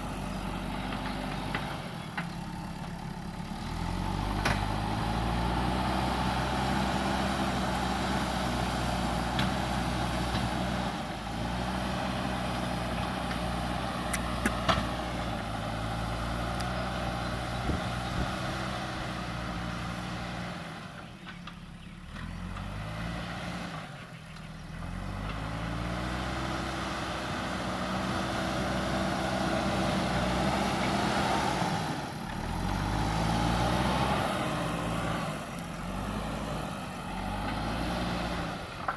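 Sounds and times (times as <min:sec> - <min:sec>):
heavy diesel engine revving: 0:00.0 - 0:21.0, 0:22.0 - 0:24.0, 0:24.6 - 0:38.9.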